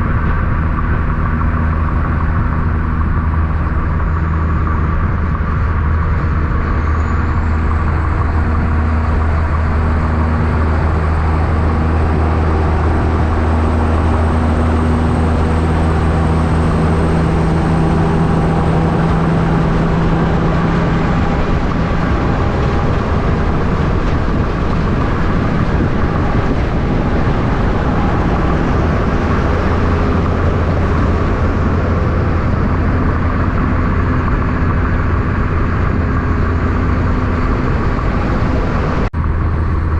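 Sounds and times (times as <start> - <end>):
road traffic with trucks passing: 0.0 - 39.9.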